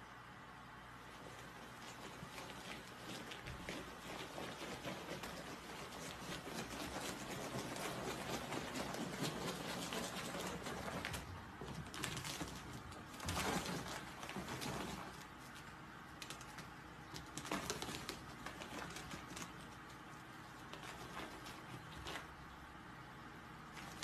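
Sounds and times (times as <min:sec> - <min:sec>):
claws scratching on ribbed plastic: 0:01.1 - 0:22.5, 0:23.6 - 0:24.0.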